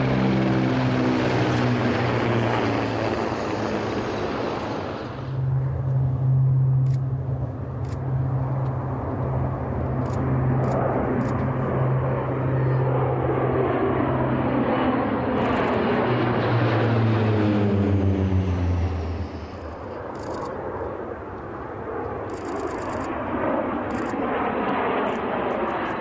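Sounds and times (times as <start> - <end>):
turboprop aircraft droning overhead: 0.0 - 26.0.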